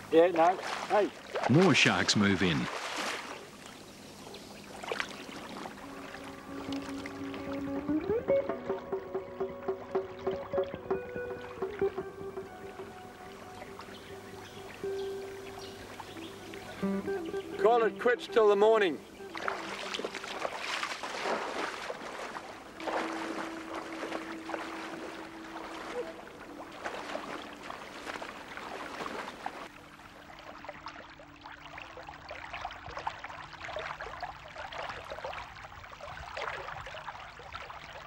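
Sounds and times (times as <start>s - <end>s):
water splashing around wading person: 0.0s - 17.8s, 18.4s - 38.0s.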